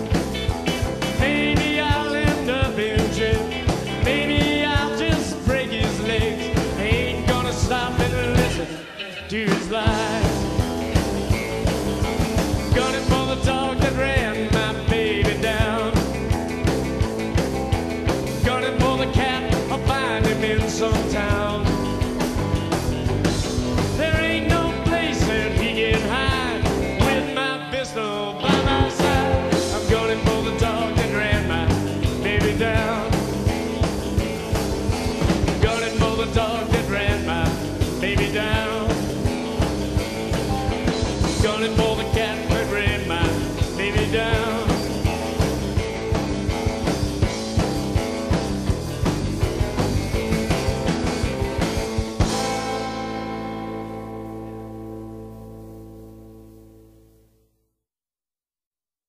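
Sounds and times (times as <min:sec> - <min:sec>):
rockabilly band playing: 0:00.0 - 0:55.7.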